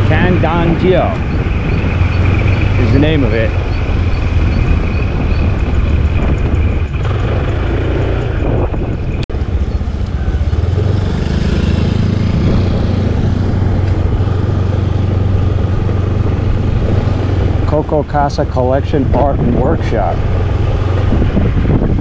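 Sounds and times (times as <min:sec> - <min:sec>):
road and wind noise: 0:00.0 - 0:22.0
scooter engine hum: 0:00.0 - 0:22.0.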